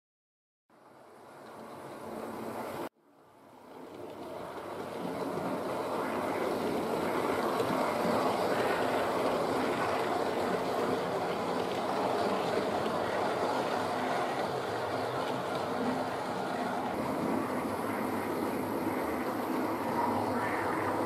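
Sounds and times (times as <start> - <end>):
model train wheels rolling on rails: 0.8 - 21.0.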